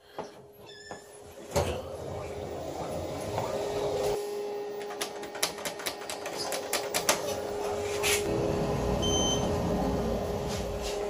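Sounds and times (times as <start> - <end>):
elevator hum: 1.2 - 11.0.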